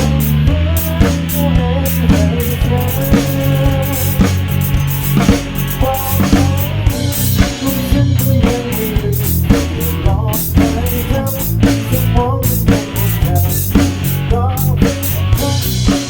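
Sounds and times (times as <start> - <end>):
drum kit steady beat: 0.0 - 16.0
rock band playing: 0.0 - 16.0.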